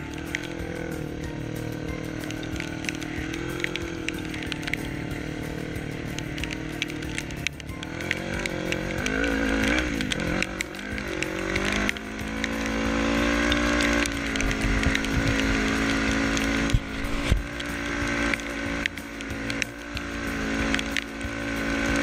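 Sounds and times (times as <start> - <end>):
quad bike engine revving: 0.0 - 22.0.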